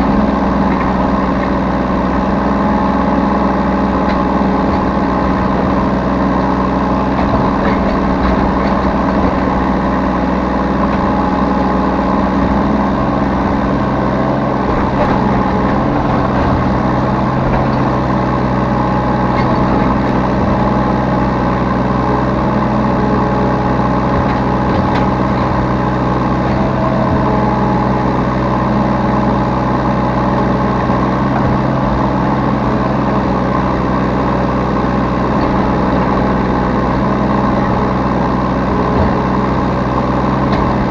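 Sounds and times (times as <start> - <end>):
diesel excavator engine running: 0.0 - 40.9.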